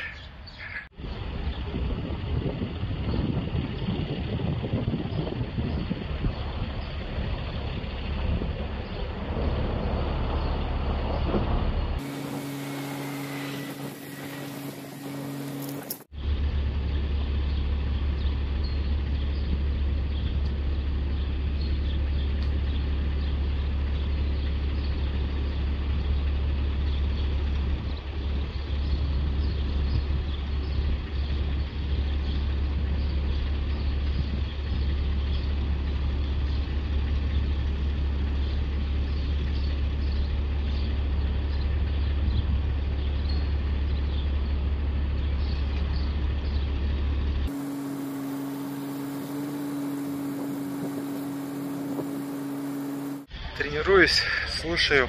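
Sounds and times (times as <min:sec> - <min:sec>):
low outdoor rumble: 0:00.3 - 0:55.0.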